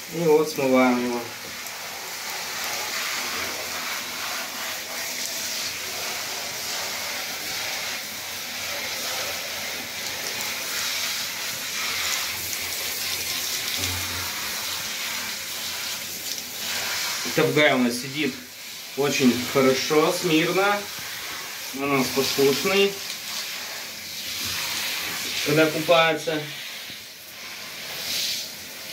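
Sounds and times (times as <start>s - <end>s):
shower spray hissing: 0.0s - 28.9s.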